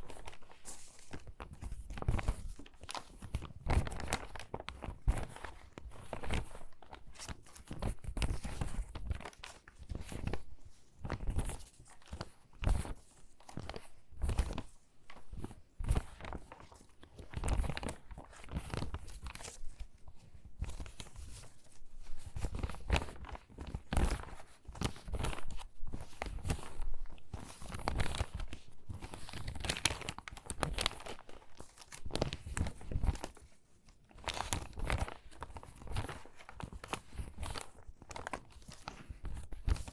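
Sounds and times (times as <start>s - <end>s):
stiff paper pages crinkling: 0.0s - 39.9s.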